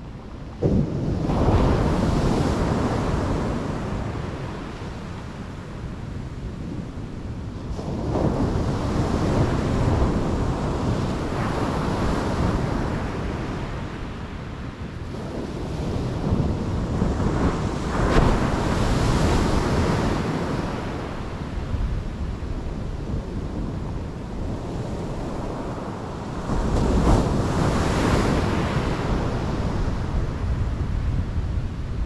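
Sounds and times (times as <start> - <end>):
wind buffeting microphone: 0.0 - 32.0
surf washing up beach: 0.5 - 32.0.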